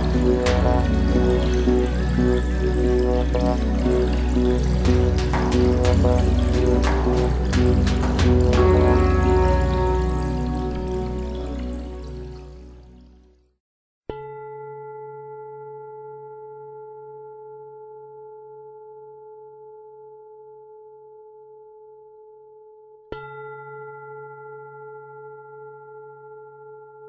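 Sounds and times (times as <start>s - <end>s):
music: 0.0s - 27.0s.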